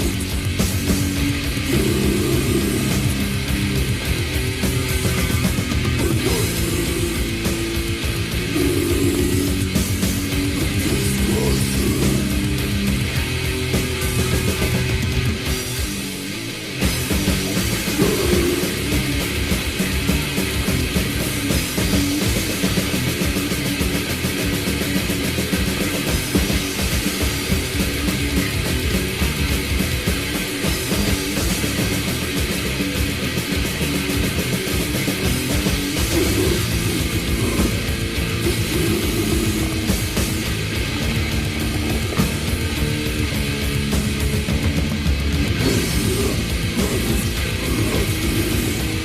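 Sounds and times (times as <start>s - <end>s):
distorted electric guitars: 0.0s - 49.0s
fast drum-kit playing: 0.0s - 49.0s
heavy metal music: 0.0s - 49.0s.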